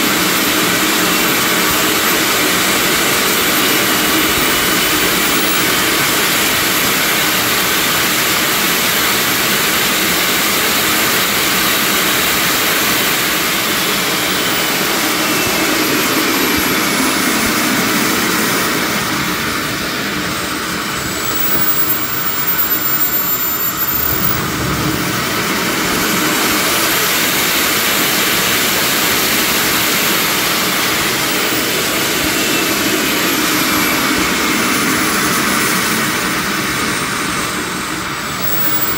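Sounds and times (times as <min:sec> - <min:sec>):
jet turbine whining: 0:00.0 - 0:38.9.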